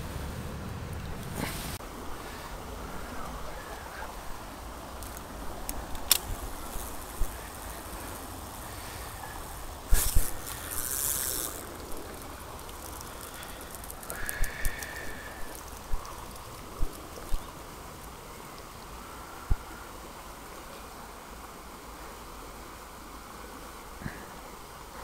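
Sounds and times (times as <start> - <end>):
stream running over stones: 0.0 - 25.0.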